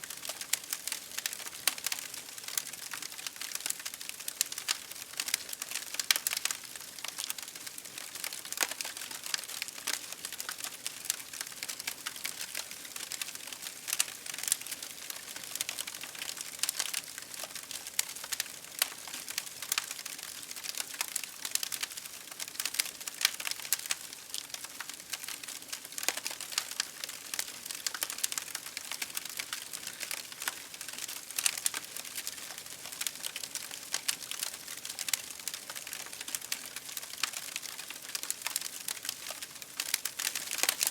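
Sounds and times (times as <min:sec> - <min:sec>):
campfire crackling: 0:00.1 - 0:40.9.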